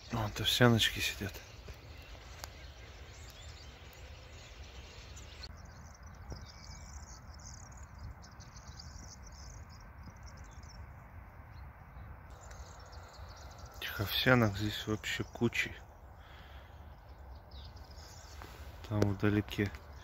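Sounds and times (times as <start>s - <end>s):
flock of small birds chirping: 0.0s - 20.0s
low steady outdoor rumble: 0.0s - 20.0s.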